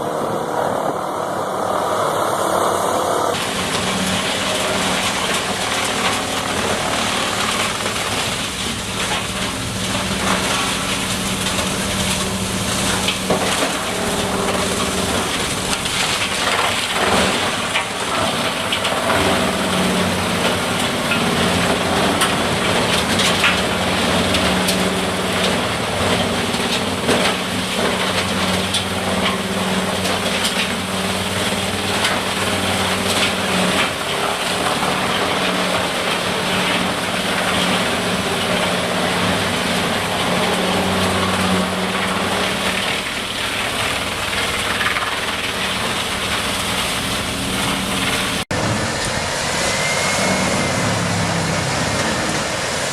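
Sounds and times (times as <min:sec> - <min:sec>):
wood chipper engine running: 0:00.0 - 0:52.9
wood crunching and splintering: 0:03.3 - 0:49.5.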